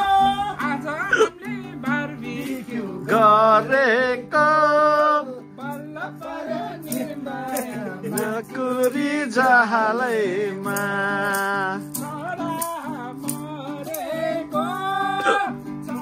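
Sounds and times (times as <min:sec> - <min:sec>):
person singing wavering notes: 0:00.0 - 0:16.0
plucked string accompaniment: 0:00.0 - 0:16.0.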